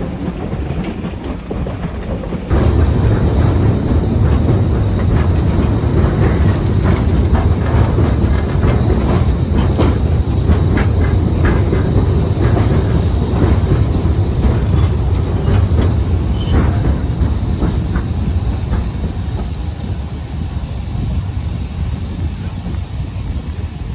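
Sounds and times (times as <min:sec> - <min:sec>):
wheels clicking over rail joints: 0:00.0 - 0:20.1
train wheels rumbling: 0:00.0 - 0:23.9.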